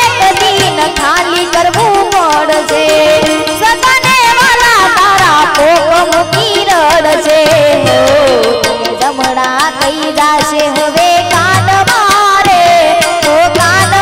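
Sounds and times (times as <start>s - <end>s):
harmonium chords: 0.0s - 14.0s
rapid drum and cymbal strokes: 0.0s - 14.0s
woman singing into microphone: 0.0s - 14.0s.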